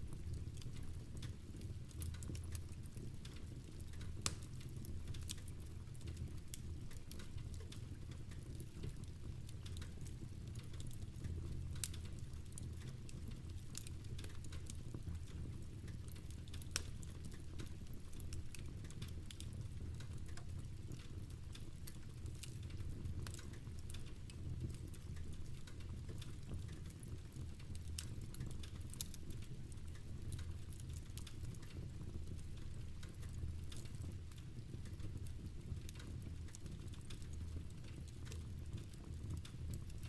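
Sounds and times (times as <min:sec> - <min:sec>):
rain pattering: 0:00.0 - 0:40.0
wood fire crackling: 0:00.0 - 0:40.0.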